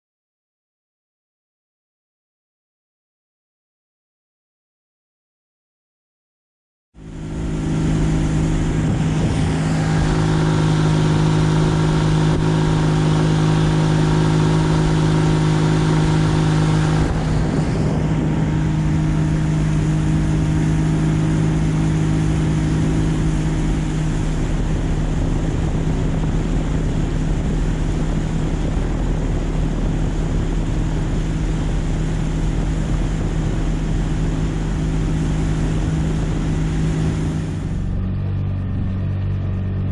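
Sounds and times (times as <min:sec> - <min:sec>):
outboard motor running: 0:07.0 - 0:39.9.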